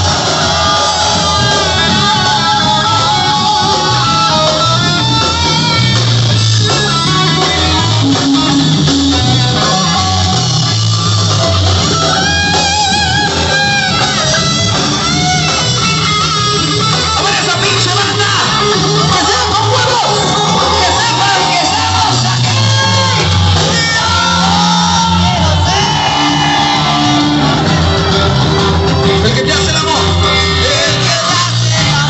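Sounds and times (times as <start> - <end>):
electric guitar melody: 0.0 - 32.0
rock band playing live: 0.0 - 32.0.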